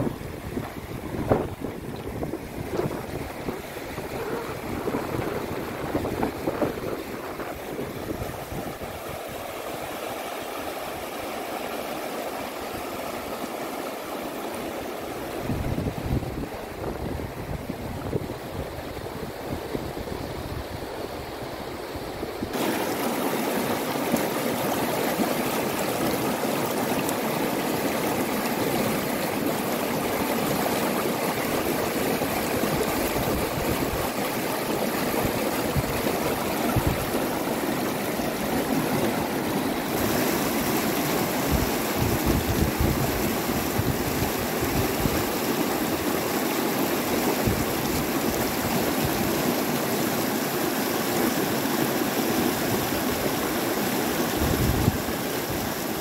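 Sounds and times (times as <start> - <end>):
river rushing over stones: 0.0 - 56.0.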